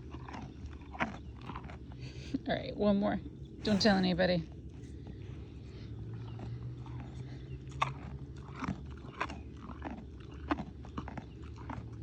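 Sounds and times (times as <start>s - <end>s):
cow crunching a carrot: 0.0s - 2.7s, 3.7s - 12.0s
steady low hum: 0.0s - 12.0s.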